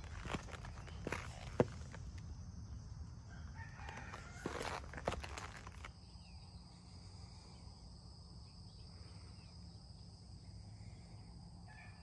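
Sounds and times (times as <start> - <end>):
insects chirring: 0.0 - 11.9.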